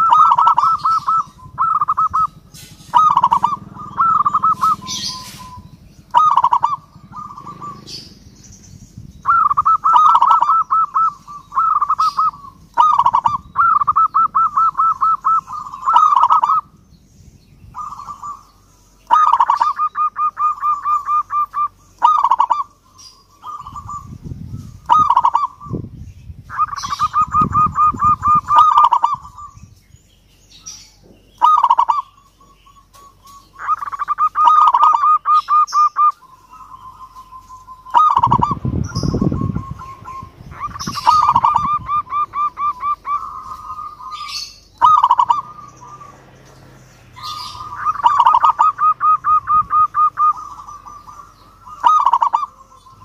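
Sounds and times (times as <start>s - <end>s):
dove cooing: 0.0s - 8.6s, 9.2s - 17.0s, 17.7s - 25.9s, 26.5s - 29.6s, 30.6s - 53.0s.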